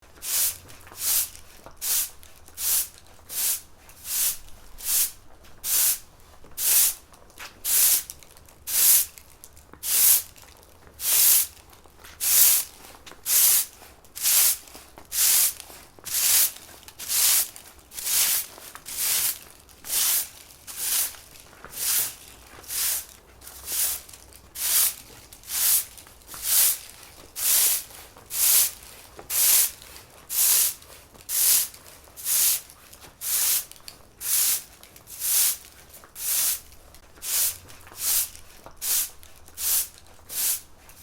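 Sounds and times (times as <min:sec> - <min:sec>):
broom sweeping a floor: 0:00.0 - 0:41.0.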